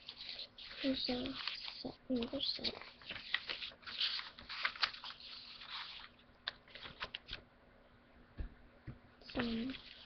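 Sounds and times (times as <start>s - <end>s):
paper rustling and crinkling: 0.0s - 7.4s, 9.3s - 10.0s.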